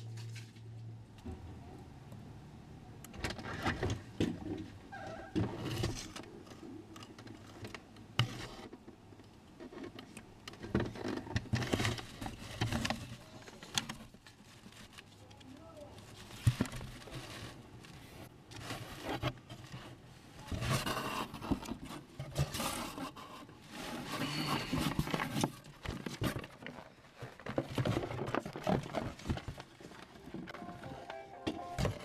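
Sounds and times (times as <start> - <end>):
cardboard scraping and rustling: 3.3 - 8.9, 9.6 - 15.2, 16.0 - 32.0.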